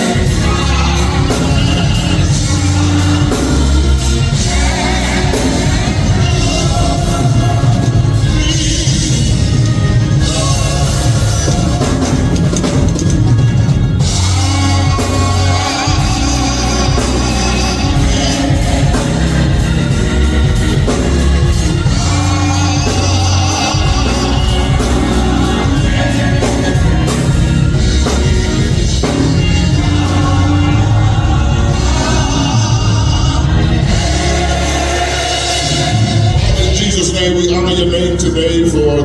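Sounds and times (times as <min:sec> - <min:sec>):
band music: 0:00.0 - 0:39.0.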